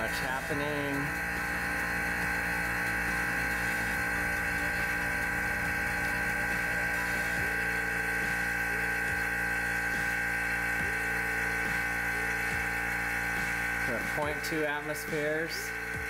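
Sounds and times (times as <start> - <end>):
vacuum pump whining: 0.0 - 16.0.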